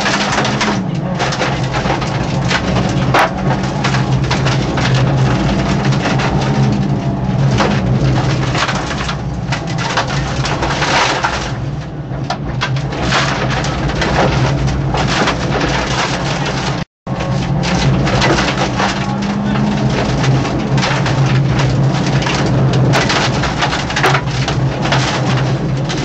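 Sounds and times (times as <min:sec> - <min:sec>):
car engine working hard: 0:00.0 - 0:26.0
road noise crackling and rattling: 0:00.0 - 0:26.0
stones hitting car body: 0:00.0 - 0:26.0.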